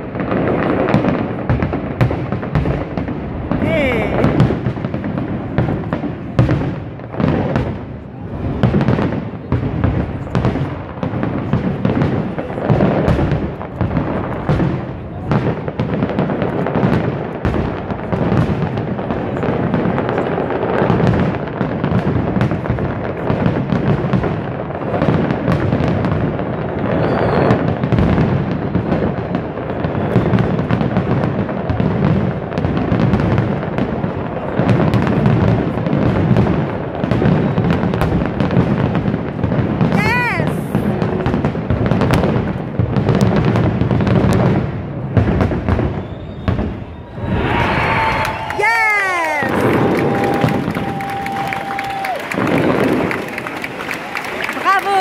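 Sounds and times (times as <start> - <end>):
fireworks exploding: 0.0 - 55.0.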